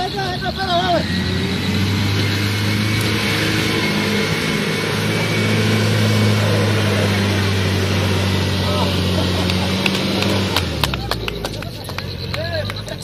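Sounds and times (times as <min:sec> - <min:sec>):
vehicle engine pulling under load: 0:00.0 - 0:13.0.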